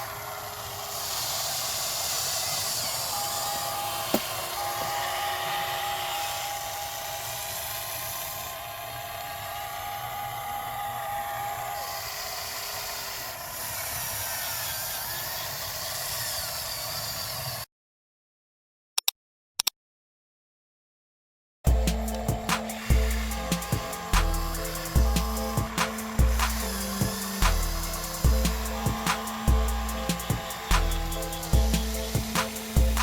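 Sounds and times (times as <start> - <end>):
electric motor and pump whining: 0.0 - 17.6, 21.7 - 33.0.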